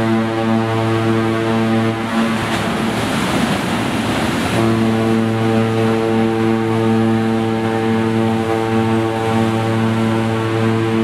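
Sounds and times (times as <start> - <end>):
ship's horn blast: 0.0 - 11.0
wind and water rushing: 0.0 - 11.0.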